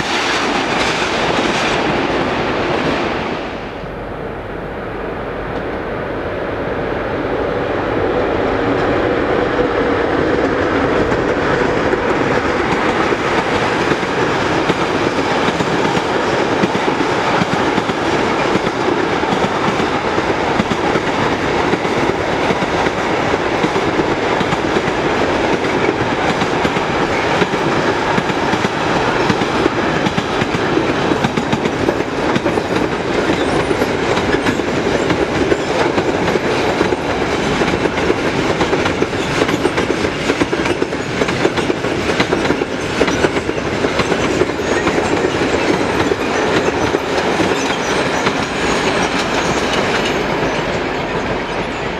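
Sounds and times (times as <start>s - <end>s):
freight train wagons rolling: 8.6s - 51.9s
wheels clacking over rail joints: 10.2s - 51.9s.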